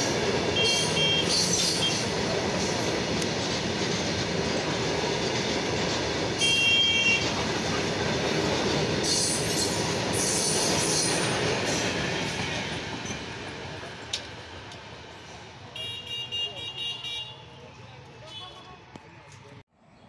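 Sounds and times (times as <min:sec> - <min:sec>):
wagon wheels rumbling on rail: 0:00.0 - 0:18.7.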